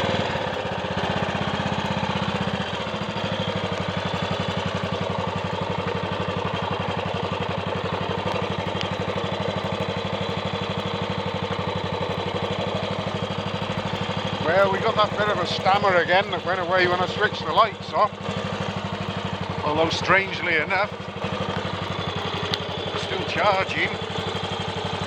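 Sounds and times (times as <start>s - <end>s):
single-cylinder engine running slowly: 0.0s - 25.0s.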